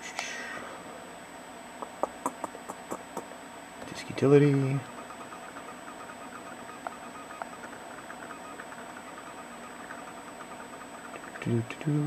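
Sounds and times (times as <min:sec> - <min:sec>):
faint hum and hiss: 0:00.0 - 0:12.0.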